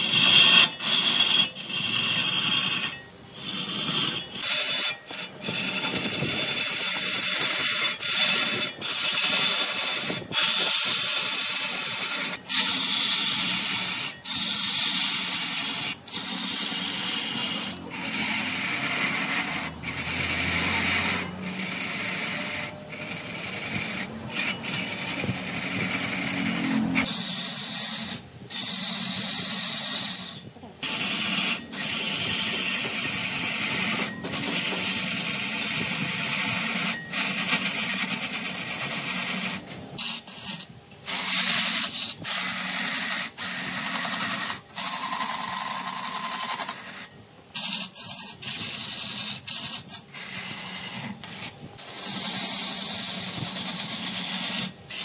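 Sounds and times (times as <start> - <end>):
tool scraping spinning wood: 0.0 - 55.0.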